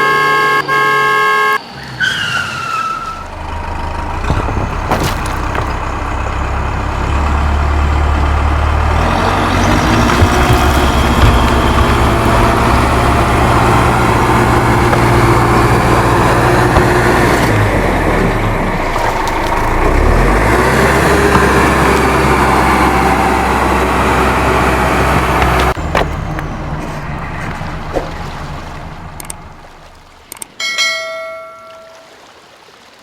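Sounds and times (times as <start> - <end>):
heavy truck engine running: 1.6 - 30.5.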